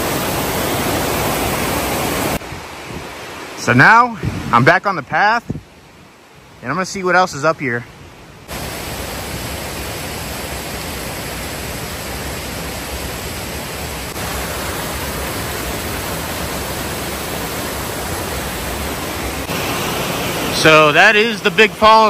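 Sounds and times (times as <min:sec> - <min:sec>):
creek rushing over cascades: 0:00.0 - 0:22.0.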